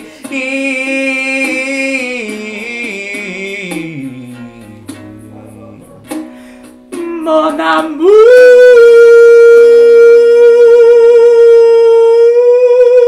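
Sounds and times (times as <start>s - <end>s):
rhythmic accompaniment: 0.0s - 12.6s
man singing a held note: 0.2s - 6.2s, 7.0s - 13.0s.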